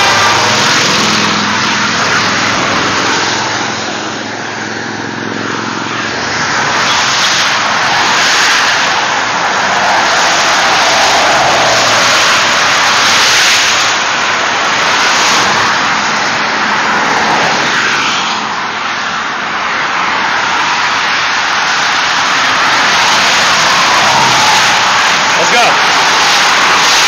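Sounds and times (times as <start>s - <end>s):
freeway traffic passing: 0.0s - 27.0s.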